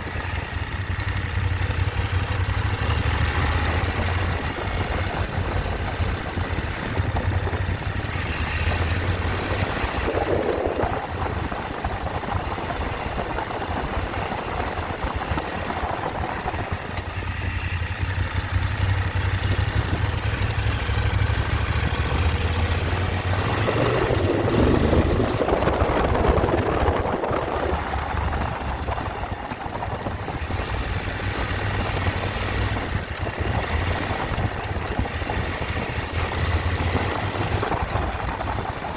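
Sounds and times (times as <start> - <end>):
motorcycle engine running: 0.0 - 38.9
rushing noise: 2.8 - 38.9.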